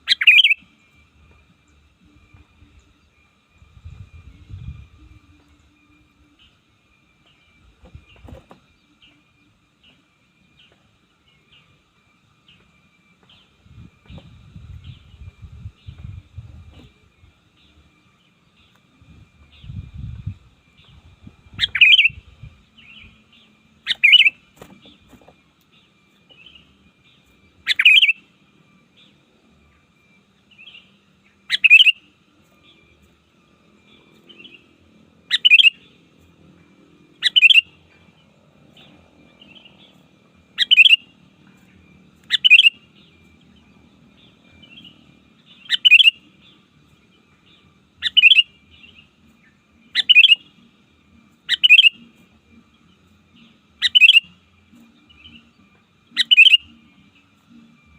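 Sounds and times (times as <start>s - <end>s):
soft bird chirps: 0.0s - 57.9s.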